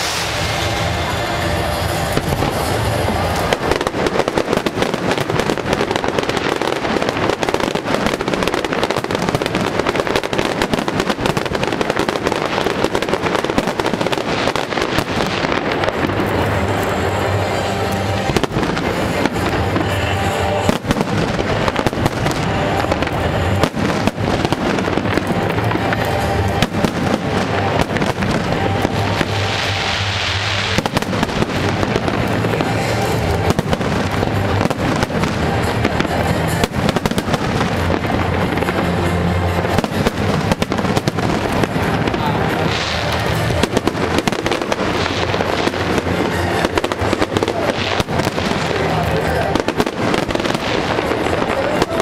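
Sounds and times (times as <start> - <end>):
fireworks bursting: 0.0 - 52.0
fireworks hissing: 0.0 - 52.0
music playing: 0.0 - 52.0.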